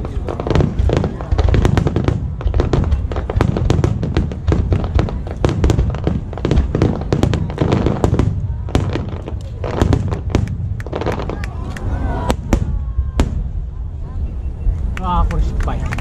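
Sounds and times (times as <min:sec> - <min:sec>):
fireworks bangs and crackles: 0:00.0 - 0:16.0
low rumbling: 0:00.0 - 0:16.0.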